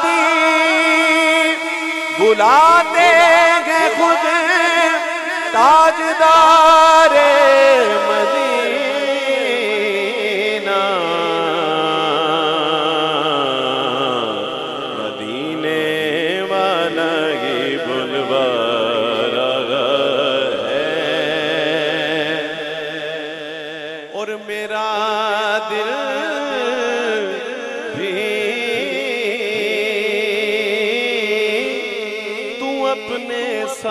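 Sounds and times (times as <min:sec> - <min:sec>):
man singing into a microphone: 0:00.0 - 0:33.9.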